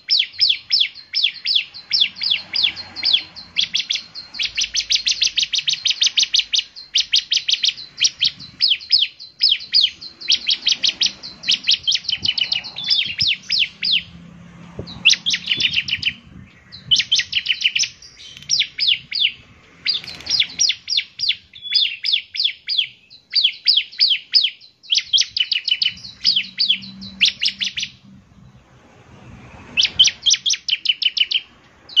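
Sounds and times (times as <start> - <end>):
bird singing high falling notes: 0.0 - 28.9.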